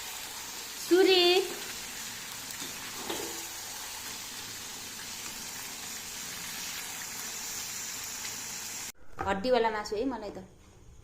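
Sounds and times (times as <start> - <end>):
curry sizzling in a pot: 0.0 - 8.9.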